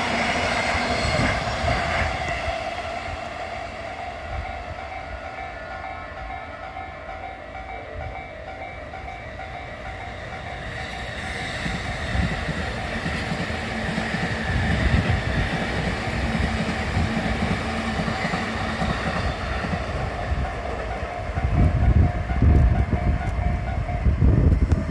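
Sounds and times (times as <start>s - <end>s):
train rumble and wheel clatter: 0.0s - 24.9s.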